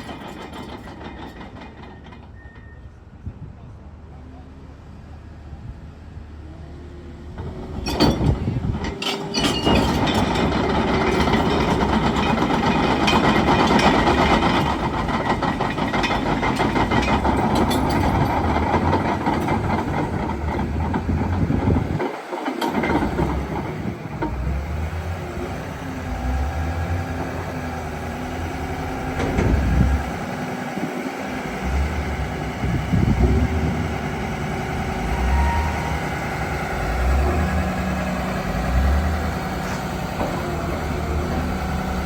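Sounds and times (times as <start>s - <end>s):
steel tracks clattering: 0.0s - 3.2s, 7.4s - 42.0s
bulldozer diesel engine: 0.0s - 42.0s.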